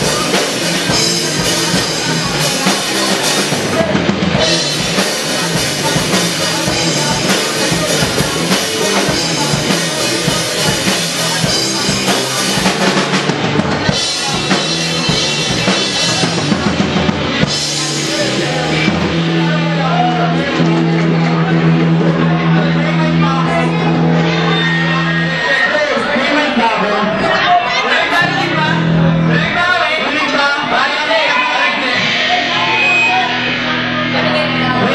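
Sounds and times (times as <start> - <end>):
drum kit: 0.0 - 25.4, 31.3 - 34.9
bass guitar: 0.0 - 34.9
rock band playing live: 0.0 - 34.9.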